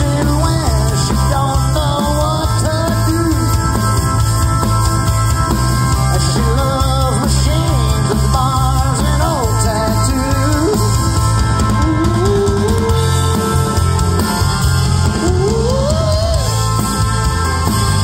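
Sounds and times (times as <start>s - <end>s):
electric guitar bending notes: 0.0s - 18.0s
live country-rock band: 0.0s - 18.0s.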